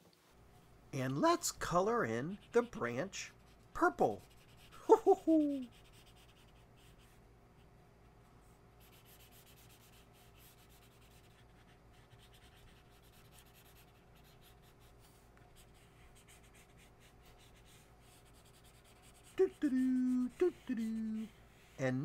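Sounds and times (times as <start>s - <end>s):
low steady hum: 0.0s - 22.0s
marker scratching on paper: 1.7s - 4.8s, 5.6s - 7.2s, 8.8s - 21.8s.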